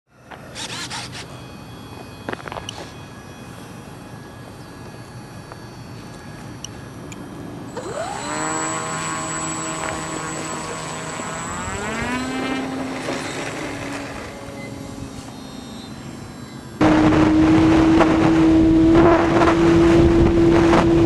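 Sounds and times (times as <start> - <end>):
electric motor and propeller whine: 0.1 - 21.0.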